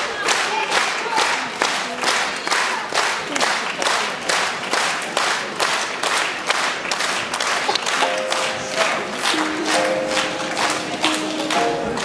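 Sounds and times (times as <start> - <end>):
audience clapping in unison: 0.0 - 12.0
general clapping: 0.0 - 12.0.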